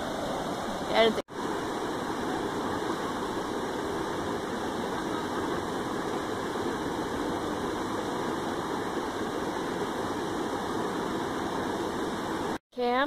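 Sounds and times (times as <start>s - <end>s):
river rushing over rocky cascade: 0.0s - 12.6s.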